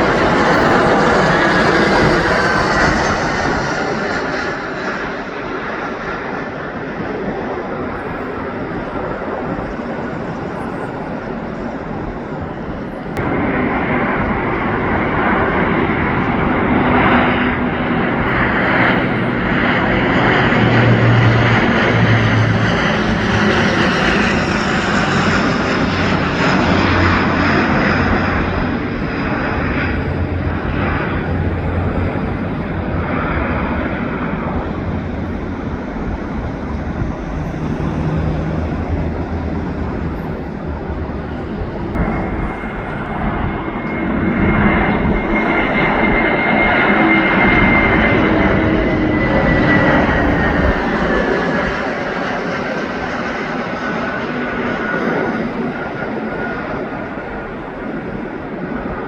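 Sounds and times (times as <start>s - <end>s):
airliner engine with high whine: 0.0s - 59.0s.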